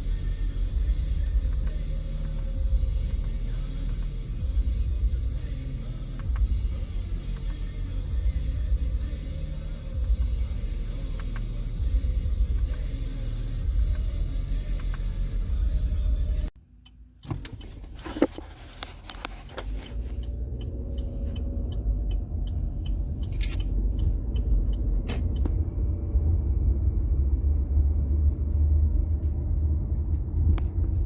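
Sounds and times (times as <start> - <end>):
motor vehicle rumbling: 0.0 - 31.0.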